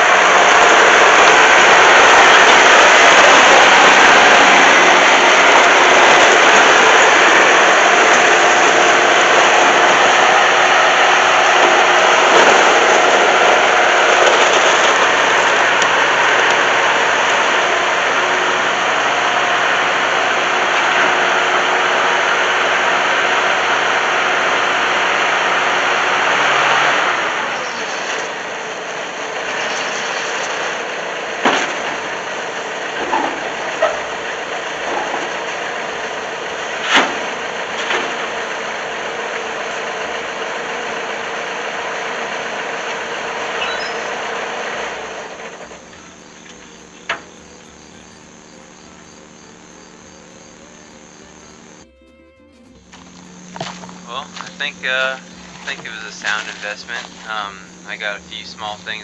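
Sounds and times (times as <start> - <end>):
diesel engine running hard: 0.0 - 51.8, 52.8 - 59.0.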